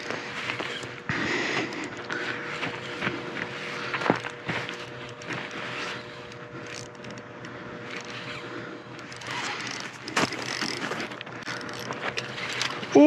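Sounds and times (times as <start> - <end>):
fishing reel ratcheting: 0.0 - 2.2, 3.6 - 13.0.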